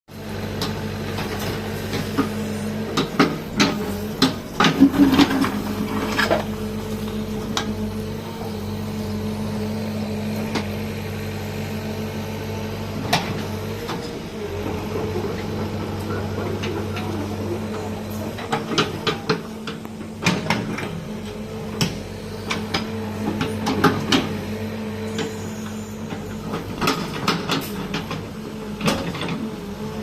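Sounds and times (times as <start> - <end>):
backhoe engine running: 0.1 - 30.0.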